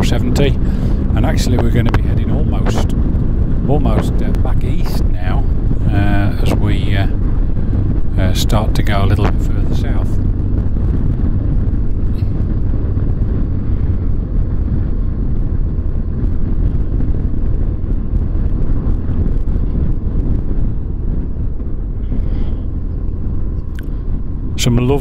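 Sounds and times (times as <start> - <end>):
motorcycle engine running: 0.0 - 25.0
wind rushing: 0.0 - 25.0.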